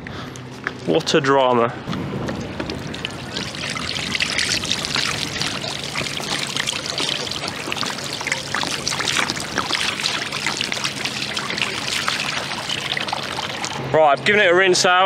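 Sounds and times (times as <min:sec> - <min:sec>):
water splashing and trickling: 0:01.9 - 0:15.0.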